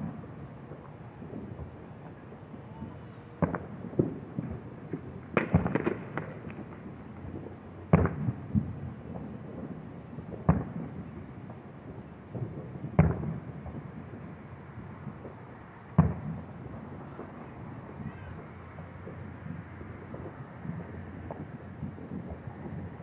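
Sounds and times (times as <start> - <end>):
firework pops: 0.0 - 14.1, 16.0 - 23.0
firework bangs with echo: 0.0 - 23.0.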